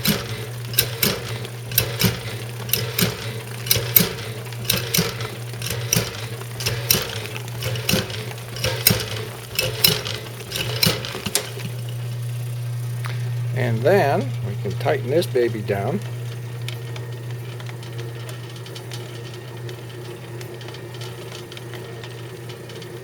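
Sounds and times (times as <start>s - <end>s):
washing machine agitator knocking: 0.0s - 23.0s
washing machine hum: 0.0s - 23.0s.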